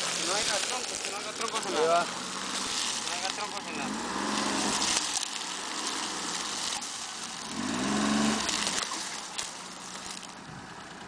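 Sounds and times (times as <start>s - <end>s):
engine revving: 0.0s - 10.3s
vehicle engine and rolling noise: 0.0s - 11.0s.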